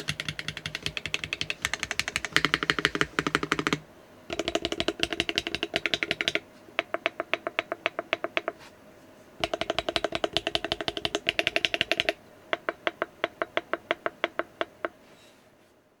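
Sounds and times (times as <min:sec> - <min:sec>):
mechanical keyboard typing: 0:00.0 - 0:08.6, 0:09.4 - 0:15.0.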